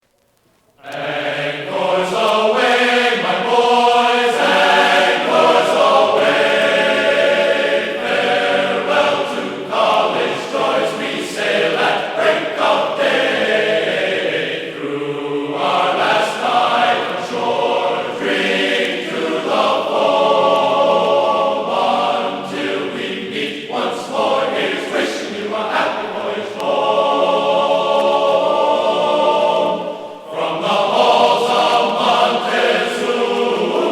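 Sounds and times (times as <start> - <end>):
choir singing: 0.8 - 33.9.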